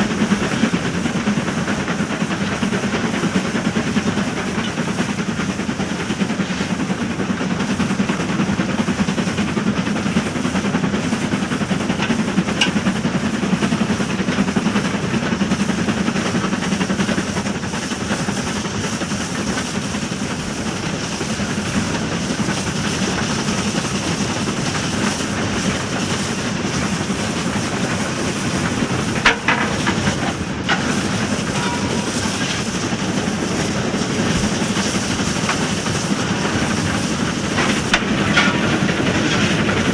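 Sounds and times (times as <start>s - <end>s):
train rumble with wheel clatter: 0.0s - 39.9s.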